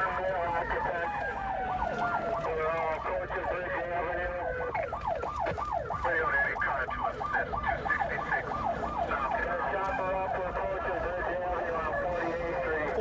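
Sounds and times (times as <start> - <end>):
police siren yelping: 0.0 - 13.0.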